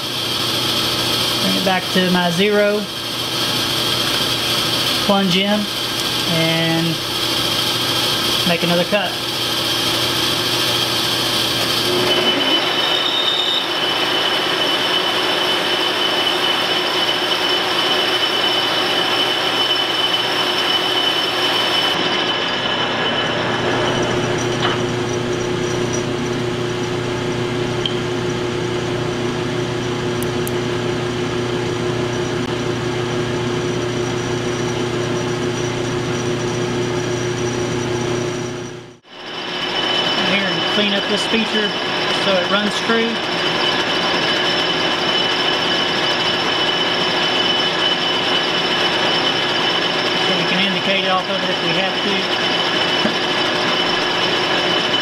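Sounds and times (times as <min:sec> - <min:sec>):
cutting tool turning steel: 0:00.0 - 0:28.4, 0:33.5 - 0:55.0
metal lathe whine: 0:00.0 - 0:55.0.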